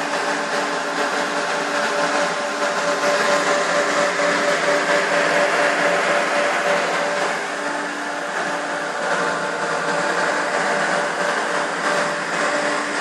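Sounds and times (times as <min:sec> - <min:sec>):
cooling fans whirring: 0:00.0 - 0:13.0
steady hum: 0:00.0 - 0:13.0.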